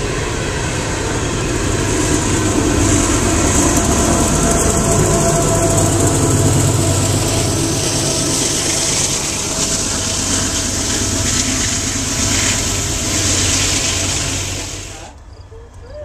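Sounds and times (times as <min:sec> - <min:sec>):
diesel locomotive engine: 0:00.0 - 0:16.0
freight train wheels rumbling: 0:00.0 - 0:16.0.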